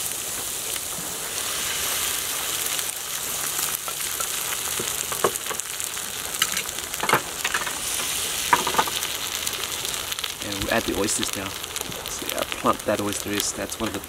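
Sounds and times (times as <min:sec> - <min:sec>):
egg sizzling in frying pan: 0:00.0 - 0:14.0.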